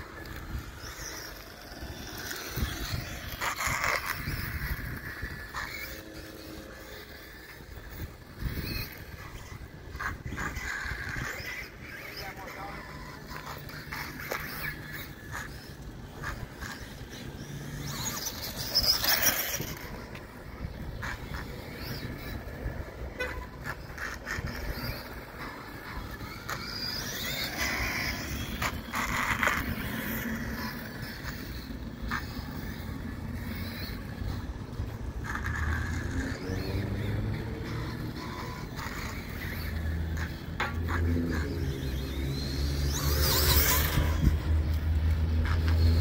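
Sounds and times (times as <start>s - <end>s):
electric toy motorcycle motor whining: 0.0s - 46.0s.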